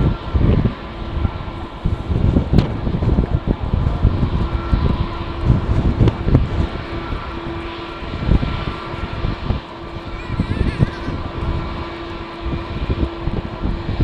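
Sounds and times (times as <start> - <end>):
jet engines whining: 0.0 - 14.0
wind buffeting microphone: 0.0 - 14.0.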